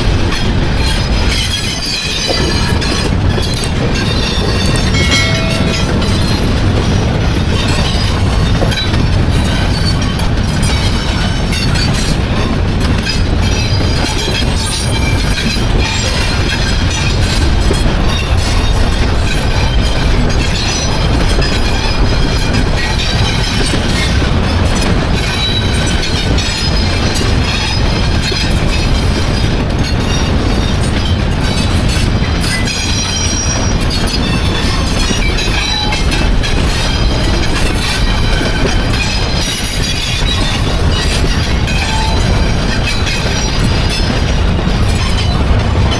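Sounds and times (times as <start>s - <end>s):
train wheels clattering on rails: 0.0s - 45.9s
high wheel squeals: 0.2s - 45.9s.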